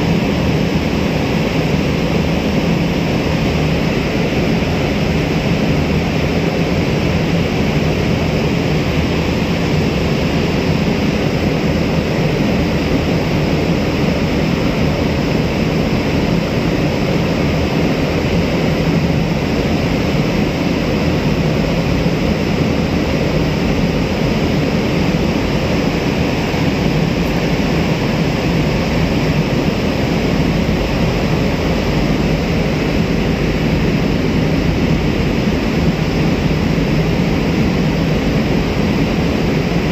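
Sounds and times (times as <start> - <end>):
boat engine rumble: 0.0 - 39.9
rushing water and wind: 0.0 - 39.9.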